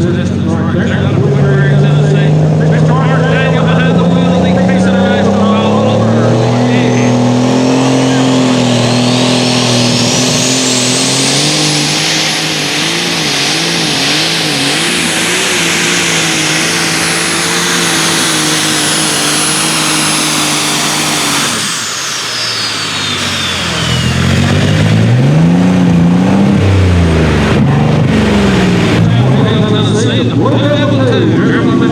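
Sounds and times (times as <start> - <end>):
diesel tractor engine under load: 0.0 - 31.9
engine revving in short blips: 0.0 - 31.9
turbo whine: 0.0 - 31.9.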